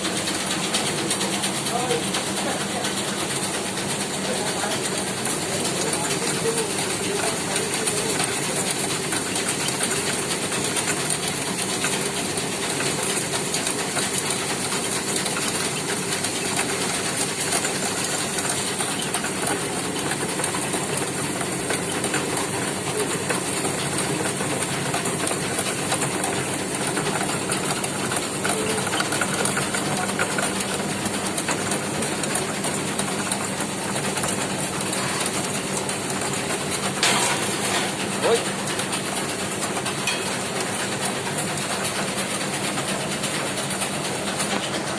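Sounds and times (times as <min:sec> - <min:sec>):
roasting machine drone: 0:00.0 - 0:44.9.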